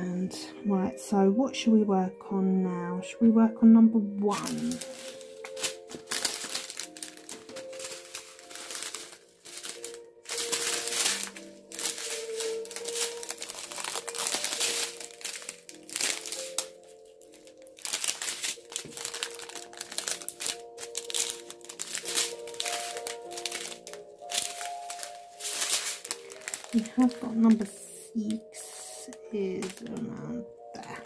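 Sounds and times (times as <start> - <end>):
soft background music: 0.0 - 31.0
plastic bags crinkling: 4.3 - 31.0.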